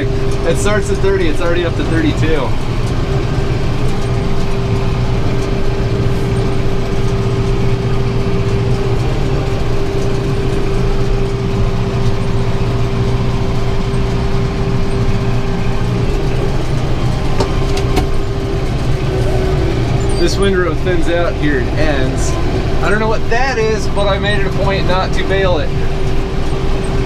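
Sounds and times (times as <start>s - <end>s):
baler high whine: 0.0s - 27.0s
tractor engine running under load: 0.0s - 27.0s.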